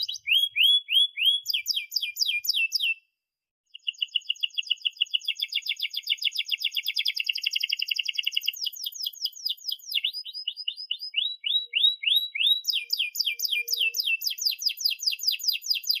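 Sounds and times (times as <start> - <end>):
canary singing rapid trills: 0.0 - 3.0, 3.7 - 16.0.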